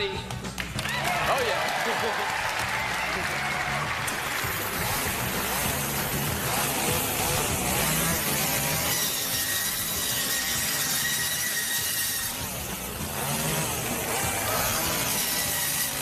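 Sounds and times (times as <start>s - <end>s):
chainsaw revving: 1.3s - 16.0s.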